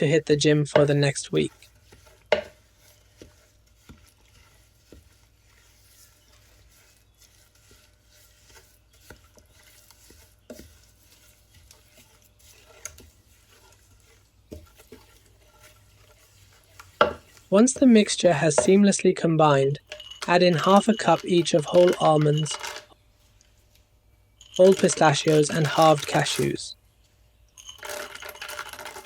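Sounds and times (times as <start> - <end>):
spoon scraping in pot: 0.0 - 23.0, 24.4 - 26.6, 27.5 - 29.0.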